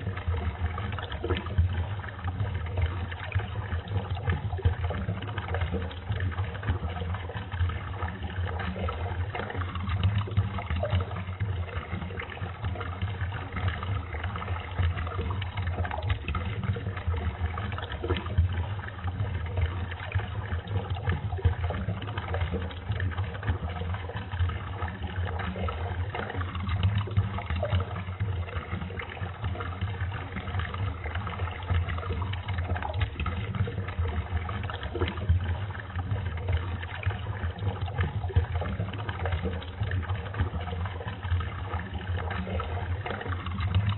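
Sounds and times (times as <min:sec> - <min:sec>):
slowed water stream: 0:00.0 - 0:43.9.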